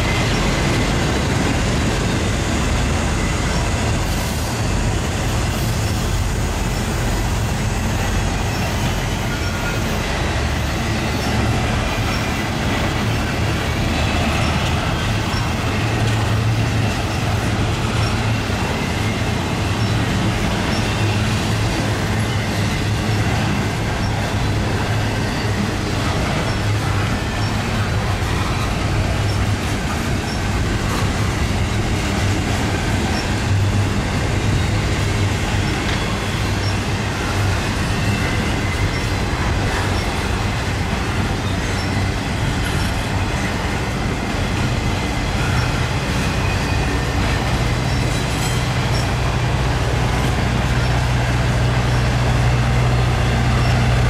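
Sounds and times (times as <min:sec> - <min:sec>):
freight train steel wheels on rail: 0:00.0 - 0:54.0.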